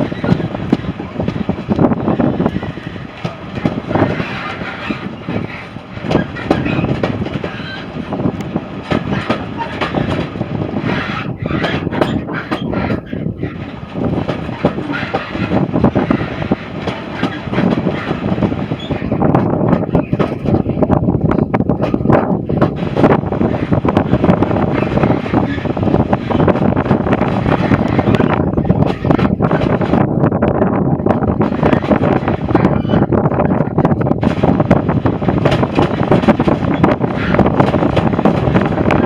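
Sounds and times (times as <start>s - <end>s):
wheels clattering over rails: 0.0s - 30.2s, 30.8s - 39.0s
train running on track: 0.0s - 39.0s.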